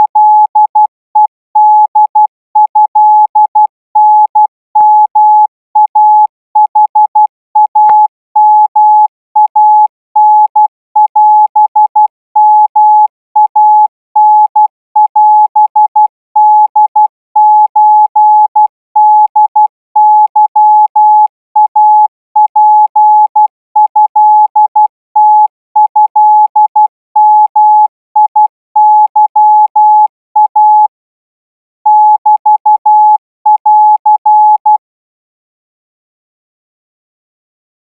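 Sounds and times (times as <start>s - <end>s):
morse code tone: 0.0s - 31.0s, 31.9s - 34.8s.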